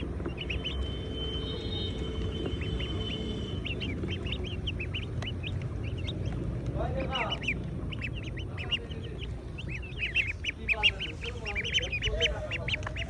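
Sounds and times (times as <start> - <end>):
chicks peeping: 0.0 - 13.0
steady low rumble: 0.0 - 13.0.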